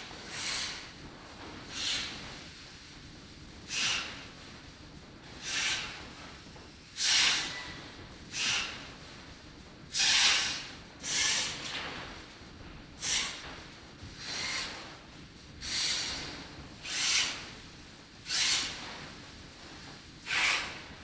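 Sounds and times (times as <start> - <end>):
short bursts of hiss: 0.2 - 1.0, 1.6 - 4.6, 5.3 - 9.3, 9.9 - 11.9, 13.0 - 21.0.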